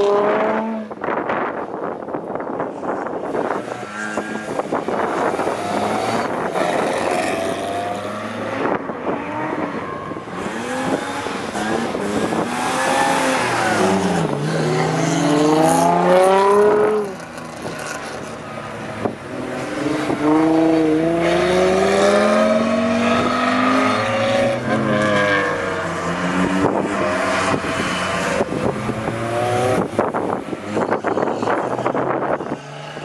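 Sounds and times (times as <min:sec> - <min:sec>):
rally car engine revving: 0:03.0 - 0:33.0.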